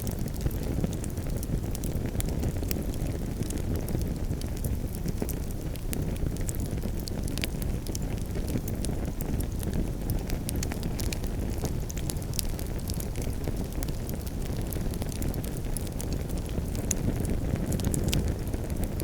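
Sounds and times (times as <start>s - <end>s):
campfire pops and snaps: 0.0s - 19.0s
low rumble of burning fire: 0.0s - 19.0s.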